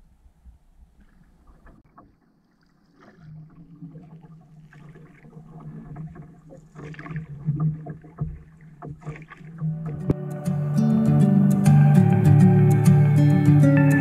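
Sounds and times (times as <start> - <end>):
water moving along hull: 0.4 - 14.0
canoe paddles splashing: 1.0 - 14.0.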